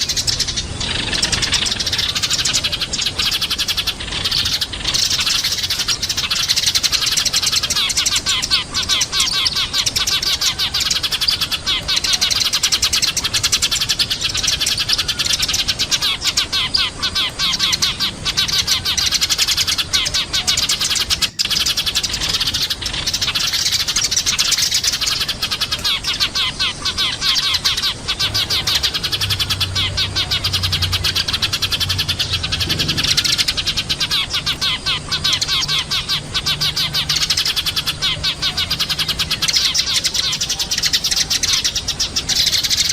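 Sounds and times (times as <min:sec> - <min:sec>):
sparrows chirping: 0:00.0 - 0:42.9.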